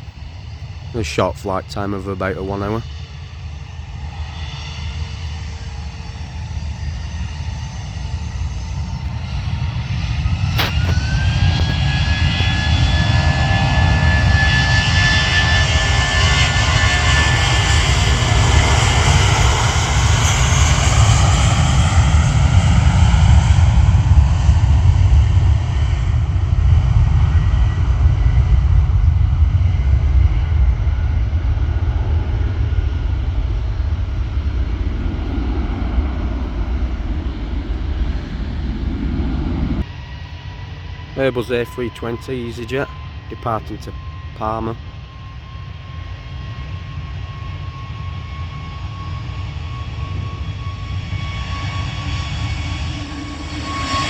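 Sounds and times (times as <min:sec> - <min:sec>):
jet engines at takeoff: 0:00.0 - 0:54.0.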